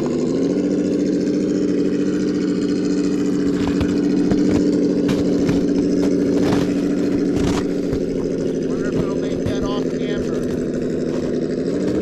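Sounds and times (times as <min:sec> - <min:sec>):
simulated engine drone: 0:00.0 - 0:12.0.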